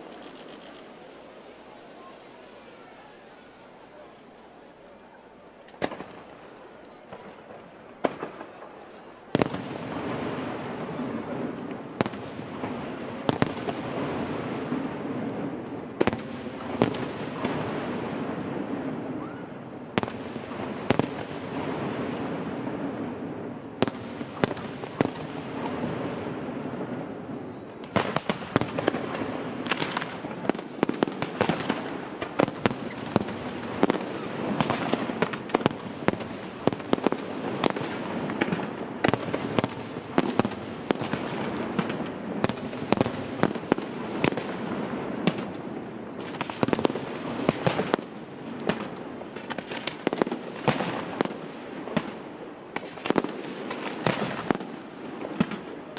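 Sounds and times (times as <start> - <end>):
fireworks bursting with bangs: 0.0 - 55.9.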